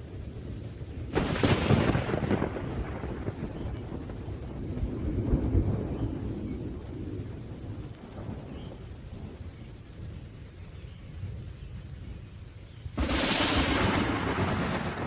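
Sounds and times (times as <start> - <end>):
rolling thunder: 0.0 - 10.3, 12.9 - 15.0
steady rain: 0.0 - 15.0.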